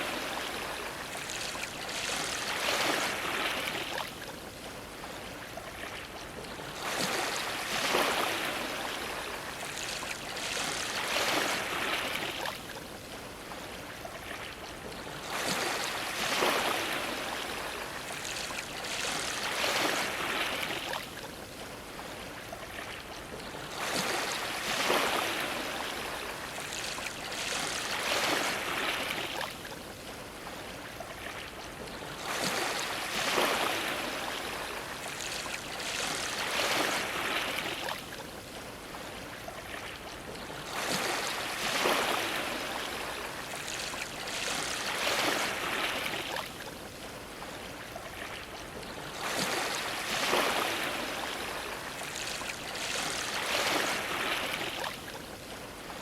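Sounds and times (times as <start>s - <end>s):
waves washing against dock: 0.0s - 56.0s.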